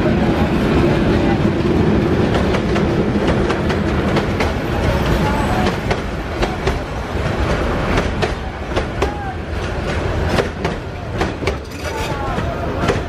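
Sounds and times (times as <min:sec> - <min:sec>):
train coaches rumbling past: 0:00.0 - 0:13.0.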